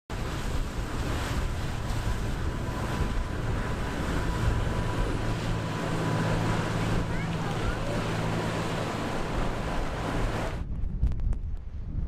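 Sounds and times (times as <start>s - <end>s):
boat engines droning: 0.1s - 10.6s
boat wake rushing: 0.1s - 10.6s
breaking surf: 0.1s - 10.6s
wind buffeting microphone: 0.1s - 12.0s.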